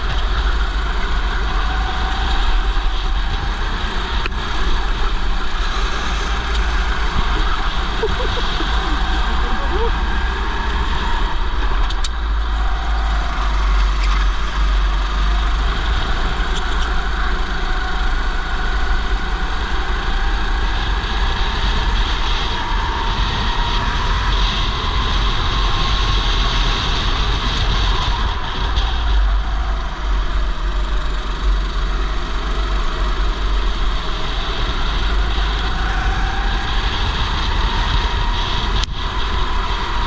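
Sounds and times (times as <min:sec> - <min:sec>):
go-kart engine running: 0:00.0 - 0:40.0
other go-karts running: 0:00.0 - 0:40.0
wind rumble on microphone: 0:00.0 - 0:40.0.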